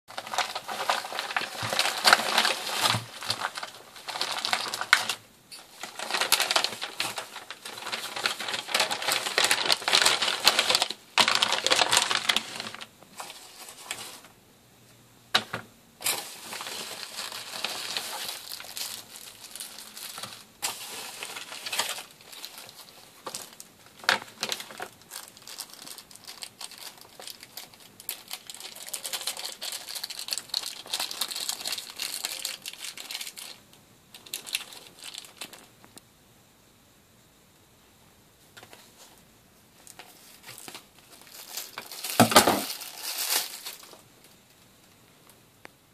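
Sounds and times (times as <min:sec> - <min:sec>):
plastic packaging crinkling: 0:00.1 - 0:14.3, 0:15.4 - 0:36.0, 0:39.8 - 0:44.6.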